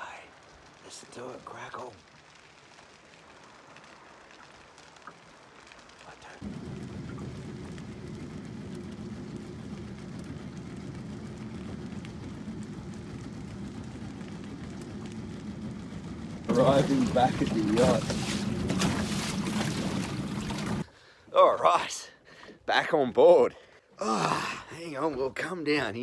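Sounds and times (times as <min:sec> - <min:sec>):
steady low rumble: 0:00.0 - 0:20.9
fire crackling: 0:00.0 - 0:26.0.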